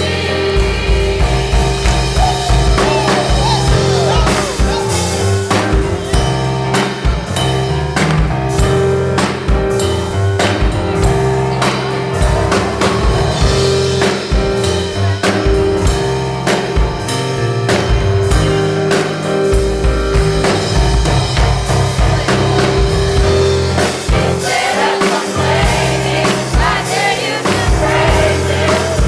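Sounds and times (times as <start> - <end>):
drum kit steady beat: 0.0 - 29.0.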